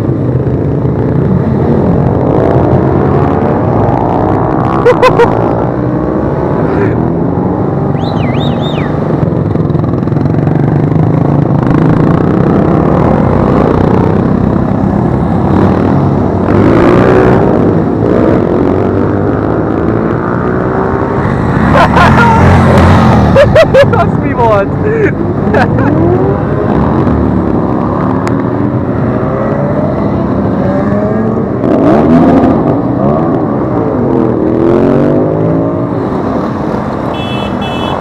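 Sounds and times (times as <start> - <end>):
louder motorcycle passing: 0.0 - 38.0
motorcycle engines droning: 0.0 - 38.0.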